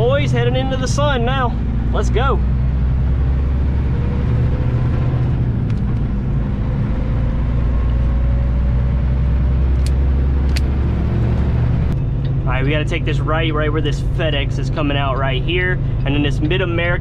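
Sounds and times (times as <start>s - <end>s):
road noise: 0.0s - 17.0s
truck diesel engine rumble: 0.0s - 17.0s.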